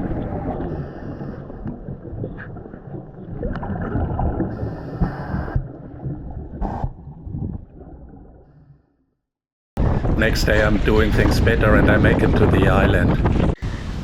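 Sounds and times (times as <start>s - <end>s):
underwater rumble and gurgling: 0.0s - 9.1s, 9.8s - 14.0s.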